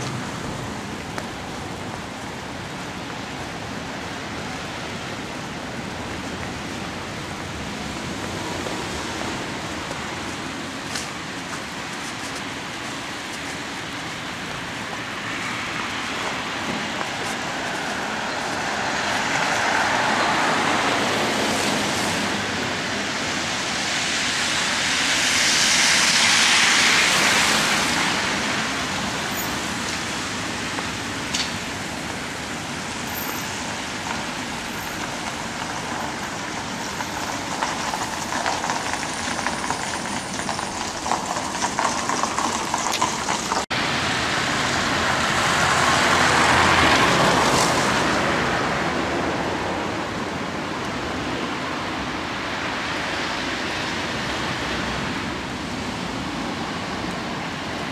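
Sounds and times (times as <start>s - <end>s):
tyres hissing on snowy road: 0.0s - 57.9s.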